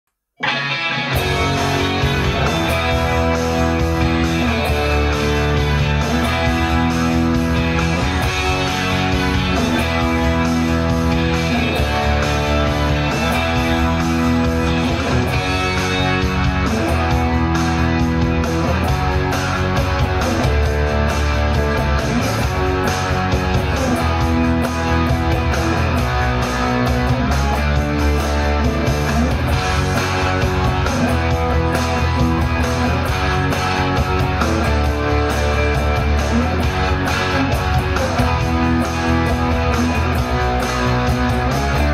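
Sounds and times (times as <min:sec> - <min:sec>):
electric guitar playing chords: 0:00.4 - 0:41.9.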